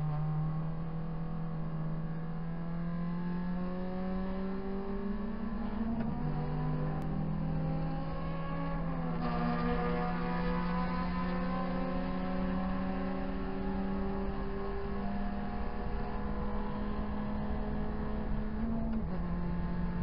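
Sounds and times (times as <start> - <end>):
race car engine revving: 2.4 - 20.0.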